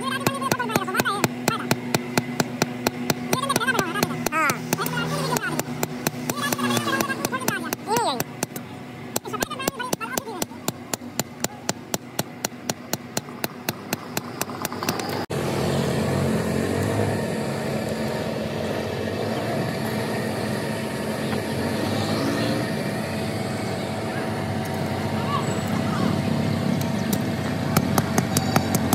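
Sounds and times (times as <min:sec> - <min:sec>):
steady mechanical hum: 0:00.0 - 0:28.9.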